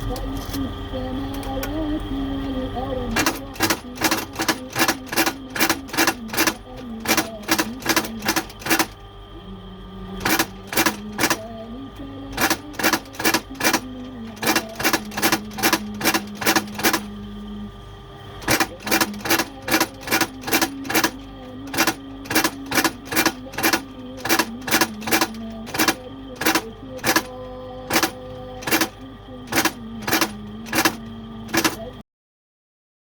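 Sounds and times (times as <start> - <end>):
faint reciting voice: 0.0 - 32.0.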